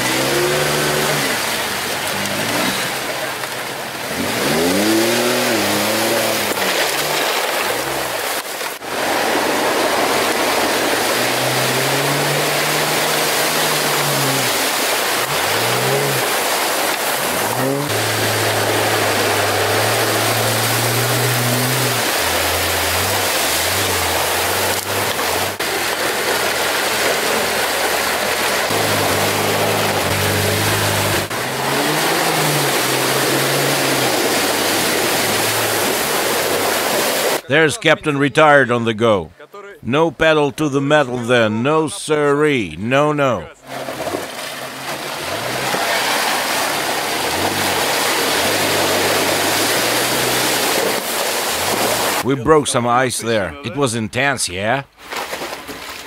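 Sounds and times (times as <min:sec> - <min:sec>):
water splashing around tyres: 0:00.0 - 0:37.5, 0:43.6 - 0:52.2, 0:54.9 - 0:56.0
engines revving: 0:00.0 - 0:37.7, 0:39.9 - 0:52.2.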